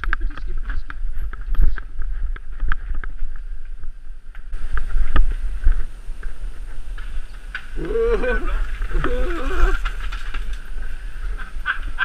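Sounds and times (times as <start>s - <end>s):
bike rattling: 0.0s - 12.0s
bike tyres crunching on gravel: 0.0s - 12.0s
wind rumble on microphone: 0.0s - 12.0s.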